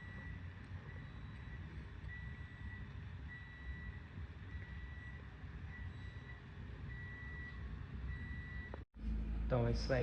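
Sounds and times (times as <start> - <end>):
low rumble: 1.8 - 10.0.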